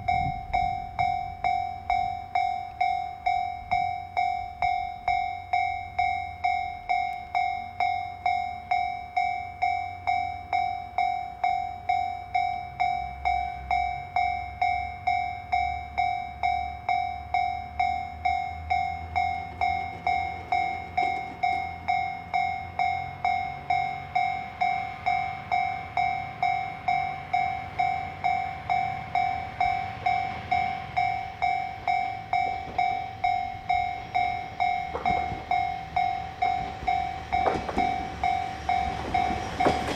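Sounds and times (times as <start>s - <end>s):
level crossing warning bell: 0.0s - 39.9s
low rumble of train: 0.0s - 39.9s.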